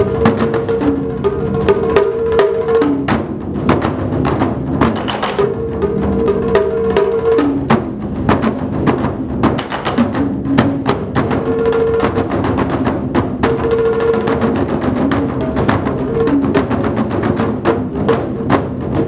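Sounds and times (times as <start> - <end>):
barrel drums beaten with sticks: 0.0 - 19.0.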